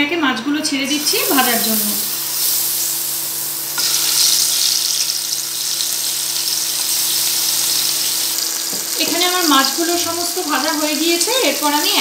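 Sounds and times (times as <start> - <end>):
fish sizzling in hot oil: 1.0 - 12.0.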